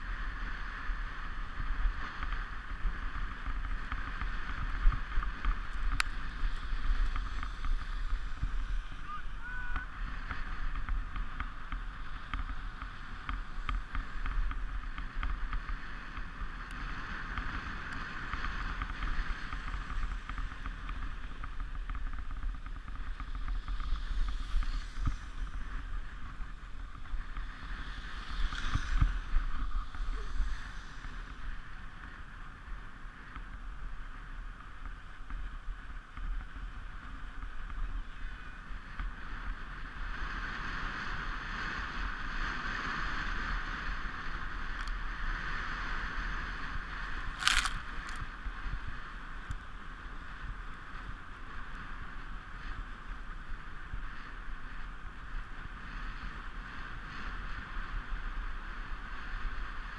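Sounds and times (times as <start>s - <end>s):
sled runners scraping over snow: 0.0s - 59.9s.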